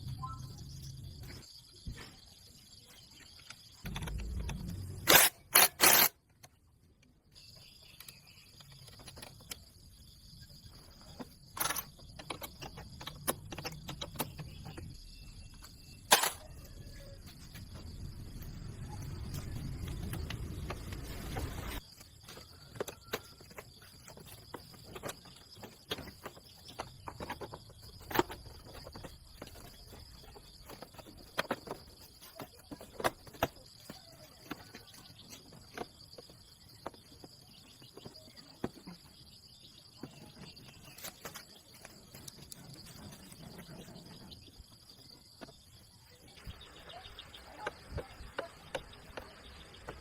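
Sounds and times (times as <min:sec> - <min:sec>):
faint high insect trill: 0:00.0 - 0:06.2, 0:07.2 - 0:50.0.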